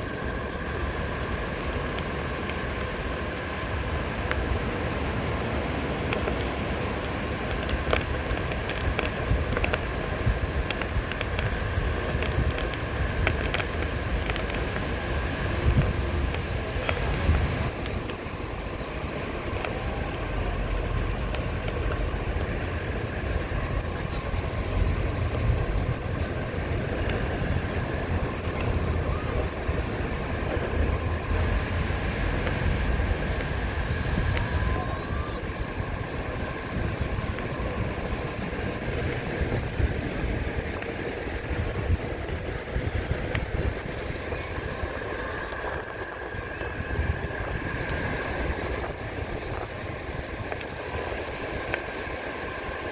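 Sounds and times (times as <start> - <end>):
electric hub motor humming: 0.0 - 52.9
wind rumbling on microphone: 0.0 - 52.9.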